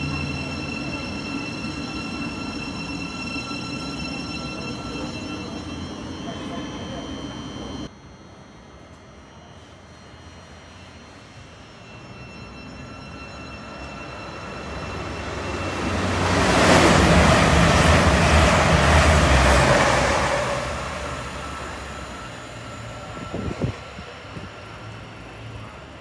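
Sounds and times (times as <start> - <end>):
train passing: 0.0 - 26.0.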